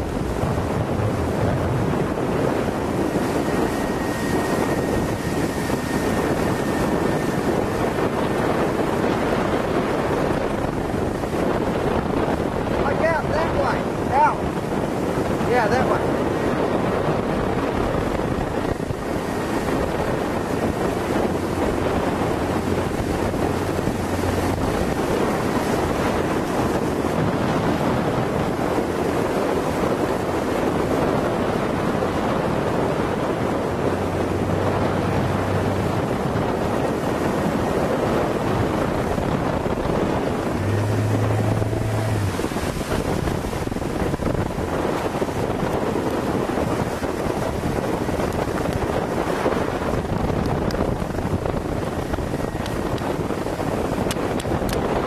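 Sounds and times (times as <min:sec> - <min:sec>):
choppy water rushing: 0:00.0 - 0:55.0
wind buffeting microphone: 0:00.0 - 0:55.0.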